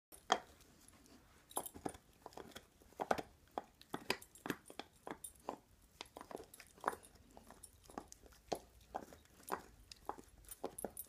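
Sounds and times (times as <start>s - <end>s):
dog gnawing on antler: 0.1s - 11.0s.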